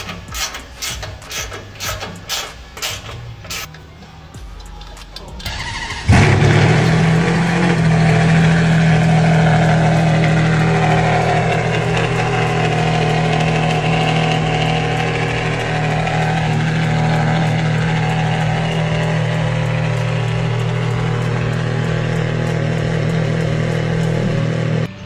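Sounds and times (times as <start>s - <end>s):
car engine starting and idling: 0.0s - 25.0s.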